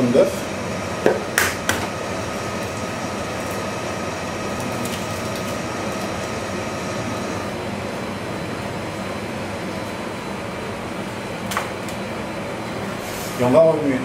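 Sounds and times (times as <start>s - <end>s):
faint steady whine: 0.0s - 14.0s
mechanical hum: 0.0s - 14.0s.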